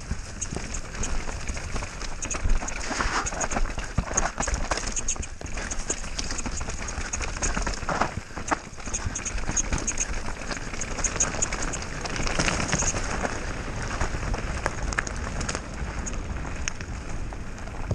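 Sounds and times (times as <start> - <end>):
bike rattling and clicking: 0.0 - 17.9
bike tyres on dirt and leaves: 0.0 - 17.9.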